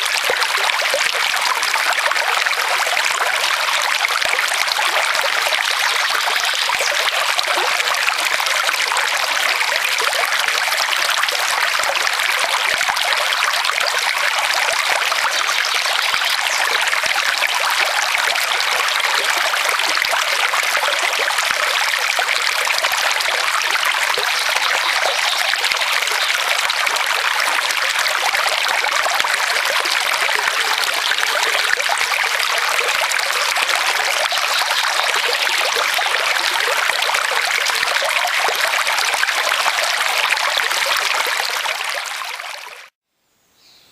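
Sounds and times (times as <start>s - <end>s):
stream flowing over stones: 0.0s - 42.9s.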